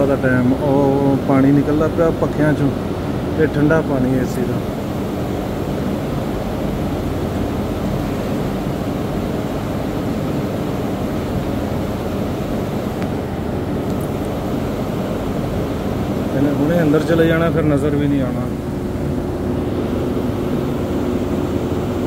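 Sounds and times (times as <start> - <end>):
misting fans droning: 0.0 - 22.0.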